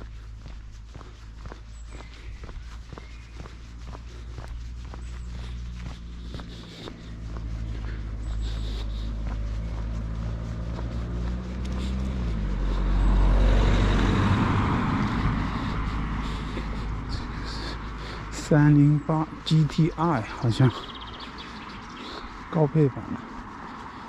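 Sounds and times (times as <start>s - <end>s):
car engine passing: 3.4s - 24.0s.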